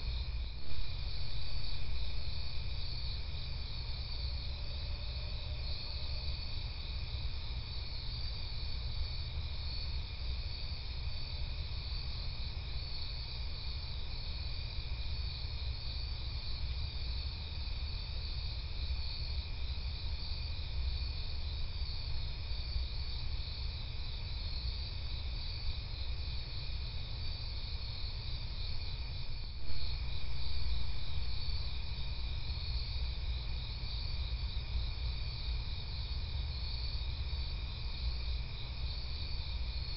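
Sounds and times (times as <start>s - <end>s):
crickets trilling: 0.0s - 39.9s
low steady hum: 0.0s - 39.9s.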